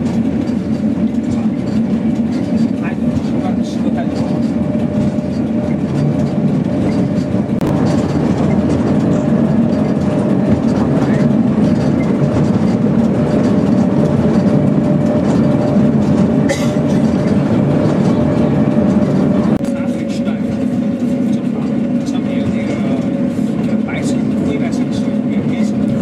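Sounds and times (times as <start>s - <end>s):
railcar rumble: 0.0s - 26.0s.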